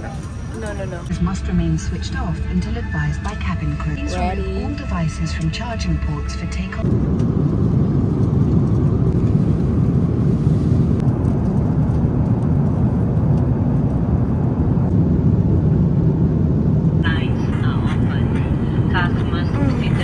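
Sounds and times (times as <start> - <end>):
airliner engine rumble in cabin: 0.0 - 20.0.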